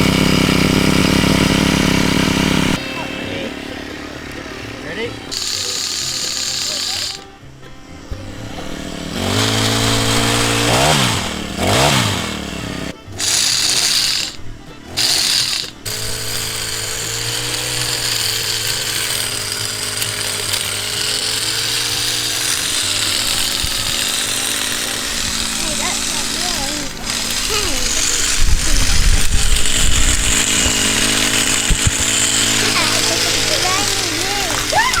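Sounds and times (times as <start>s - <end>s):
hedge trimmer engine revving: 0.0s - 35.0s.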